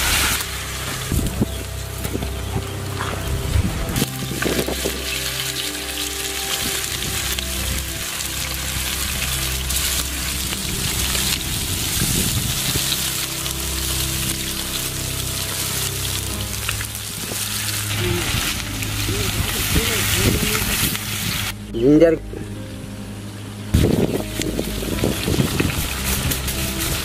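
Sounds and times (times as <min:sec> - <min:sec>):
chicken sizzling in hot oil: 0:00.0 - 0:21.6, 0:23.7 - 0:27.0.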